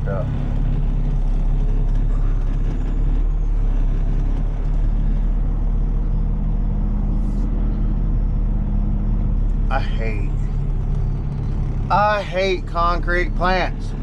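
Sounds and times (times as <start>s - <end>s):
diesel engine drone from cab: 0.0s - 14.0s.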